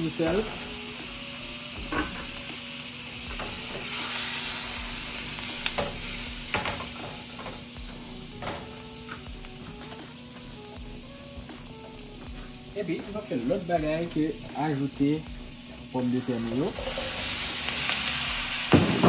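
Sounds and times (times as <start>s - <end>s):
butter sizzling in skillet: 0.0s - 19.0s.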